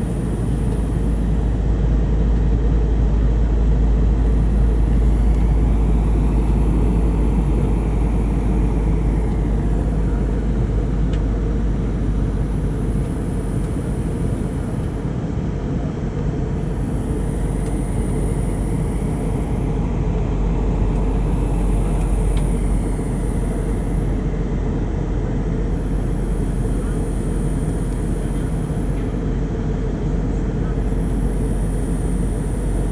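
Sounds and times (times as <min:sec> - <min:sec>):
airliner cabin noise: 0:00.0 - 0:32.9.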